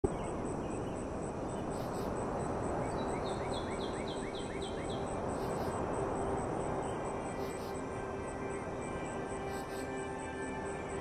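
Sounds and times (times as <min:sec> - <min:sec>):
bird singing: 0:00.0 - 0:11.0
insect chirring: 0:00.1 - 0:11.0
steady hiss: 0:00.4 - 0:11.0.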